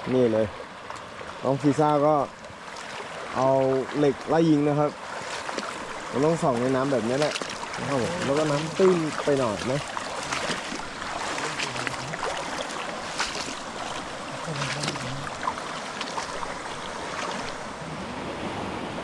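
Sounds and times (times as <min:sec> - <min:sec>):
stream water running: 0:00.0 - 0:19.0
sharp clicks and splashes: 0:00.5 - 0:17.7.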